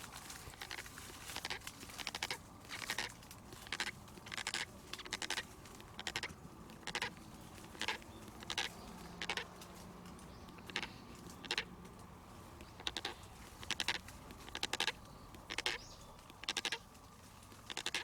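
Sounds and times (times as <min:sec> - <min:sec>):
crunching footsteps: 0:00.0 - 0:18.0.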